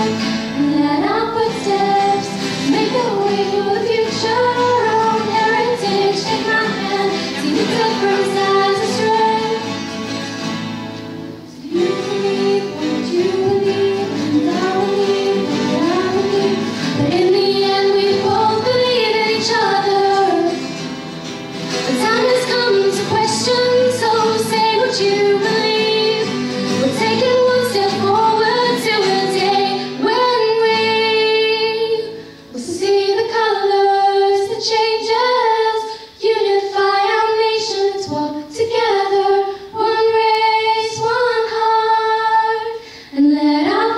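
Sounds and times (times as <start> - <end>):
girls singing pop ballad: 0.0 - 9.9, 11.5 - 43.9
acoustic guitars: 0.0 - 43.9.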